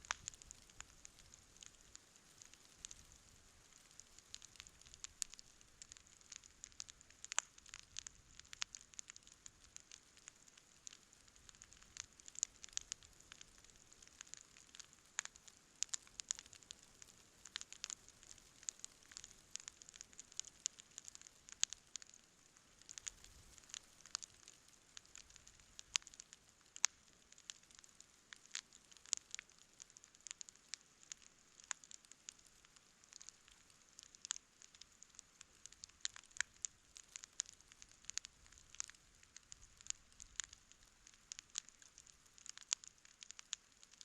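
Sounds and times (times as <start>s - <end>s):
hiss of burning: 0.0s - 43.3s
campfire crackling and popping: 0.0s - 44.0s.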